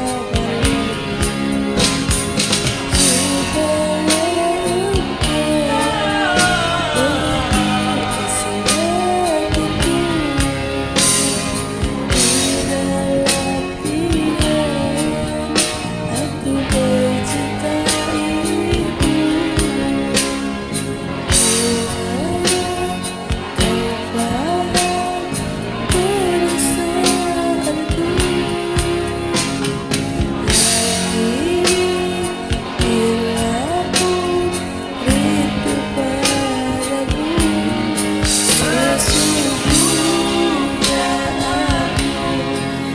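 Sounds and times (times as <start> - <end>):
drums: 0.0 - 42.9
guitar melody with sliding notes: 0.0 - 42.9
person singing karaoke: 0.0 - 42.9
pop backing track: 0.0 - 42.9.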